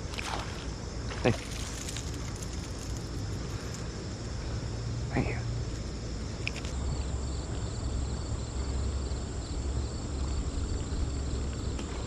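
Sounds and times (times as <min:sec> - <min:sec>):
crickets trilling: 0:00.0 - 0:12.0
low steady rumble: 0:00.0 - 0:12.0.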